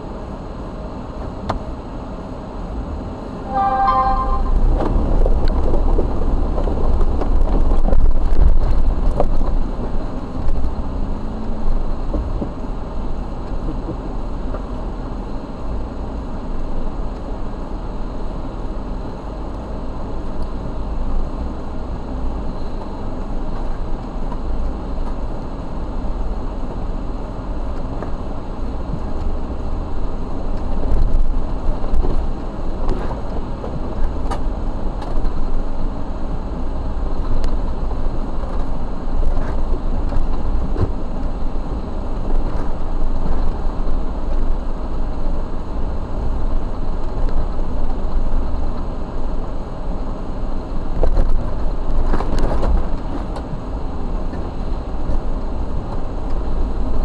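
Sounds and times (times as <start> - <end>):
car engine rumbling at low speed: 0.0 - 57.0.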